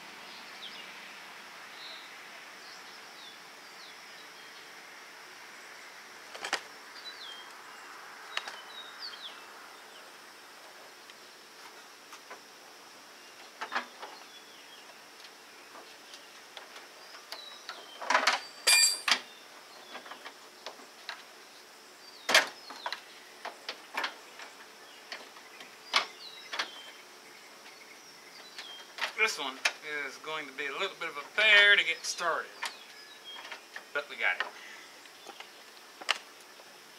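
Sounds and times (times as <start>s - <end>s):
faint birds chirping: 0.0s - 36.9s.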